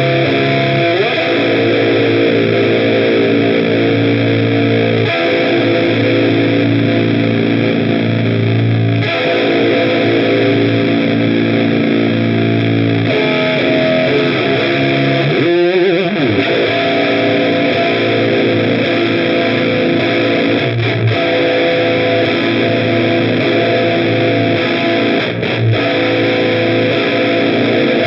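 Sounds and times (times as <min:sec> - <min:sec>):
distorted electric guitar chords: 0:00.0 - 0:28.0.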